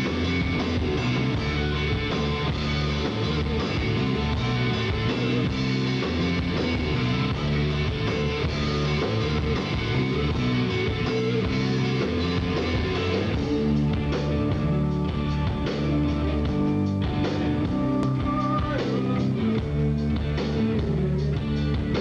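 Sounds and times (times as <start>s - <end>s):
bass guitar: 0.0s - 22.0s
drums: 0.0s - 22.0s
electric guitar: 0.0s - 22.0s.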